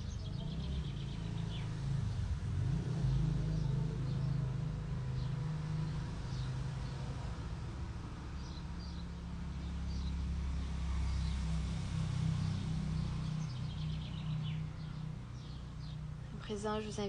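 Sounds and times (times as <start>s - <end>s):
small birds chirping: 0.0s - 17.0s
vehicle engine rumble: 0.0s - 17.0s.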